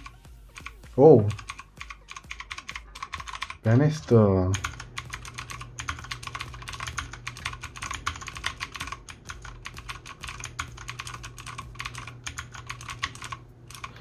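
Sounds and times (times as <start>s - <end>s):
mechanical keyboard clicking: 0.0s - 3.7s, 4.5s - 14.0s.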